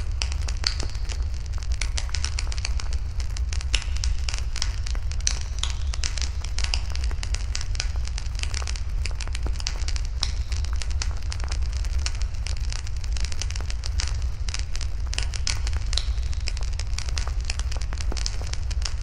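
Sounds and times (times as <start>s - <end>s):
low rumble of fire: 0.0s - 19.0s
wood fire crackling and popping: 0.0s - 19.0s.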